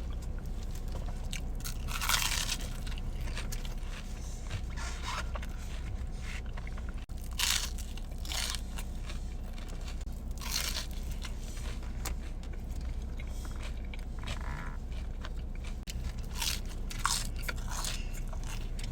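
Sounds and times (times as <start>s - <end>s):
crunchy biting and chewing: 0.1s - 18.9s.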